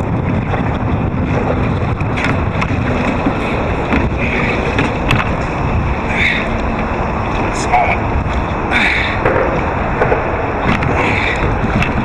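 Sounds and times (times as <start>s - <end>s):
water lapping against kayak: 0.0s - 12.0s
wind buffeting microphone: 0.0s - 12.0s.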